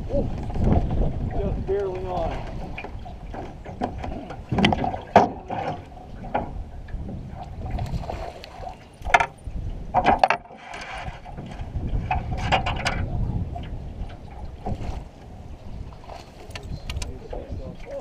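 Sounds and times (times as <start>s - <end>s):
knocks and clatter in a boat: 0.0s - 18.0s.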